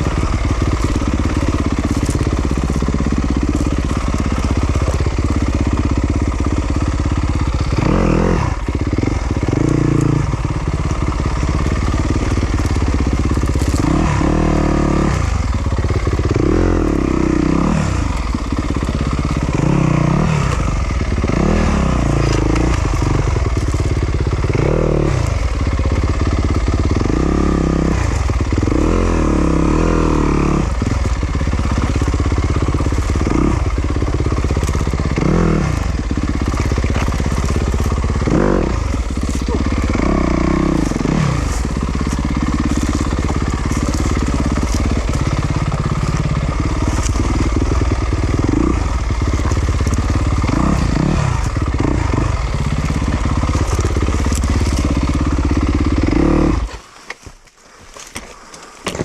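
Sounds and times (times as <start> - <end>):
motorcycle engine revving: 0.0 - 57.3.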